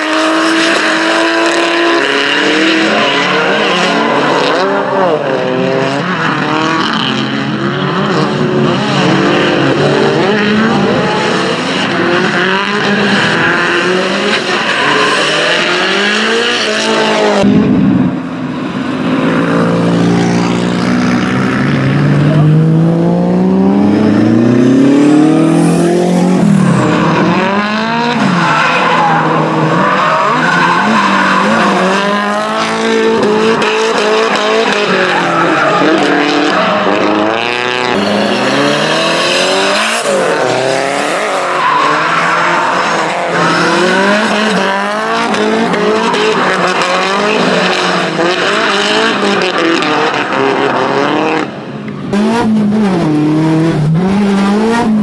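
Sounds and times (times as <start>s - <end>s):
tires squealing on asphalt: 0.0s - 17.5s, 24.1s - 51.5s
car engines revving: 0.0s - 55.0s.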